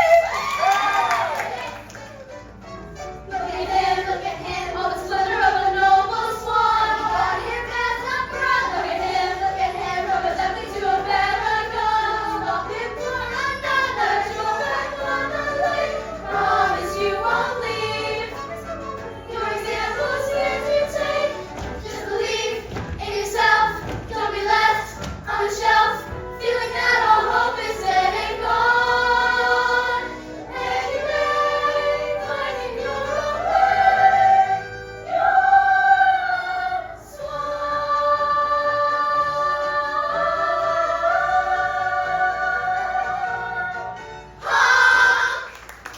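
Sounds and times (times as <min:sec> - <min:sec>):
chorus of voices singing: 0:03.3 - 0:45.6.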